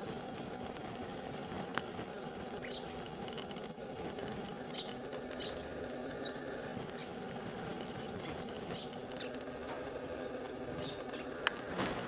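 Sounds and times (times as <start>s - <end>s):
low background hum: 0.0s - 12.0s
high bird chirps: 0.7s - 3.1s, 3.9s - 11.4s.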